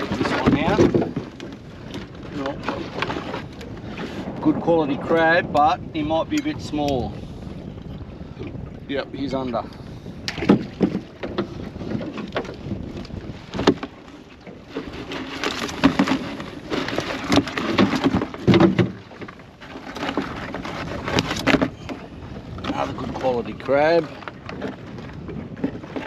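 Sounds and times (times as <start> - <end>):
crabs knocking and scraping: 0.0 - 7.2, 9.6 - 26.0.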